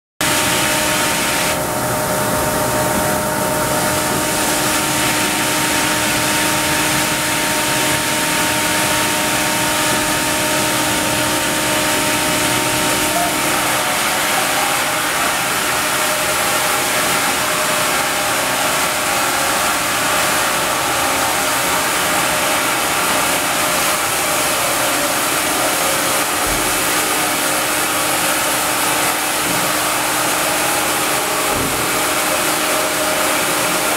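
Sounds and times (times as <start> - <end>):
sawmill machinery drone: 0.2 - 33.9.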